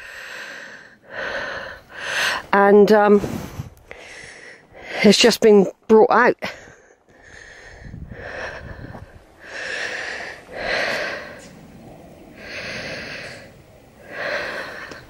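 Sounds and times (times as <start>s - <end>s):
soft noisy breathing: 0.0s - 5.2s, 6.4s - 15.0s.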